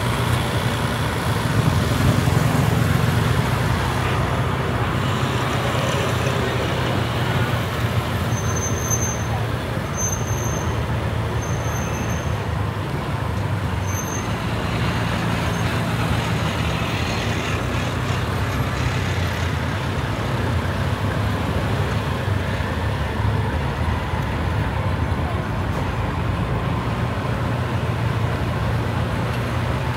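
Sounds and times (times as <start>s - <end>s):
traffic engine hum: 0.0s - 29.9s.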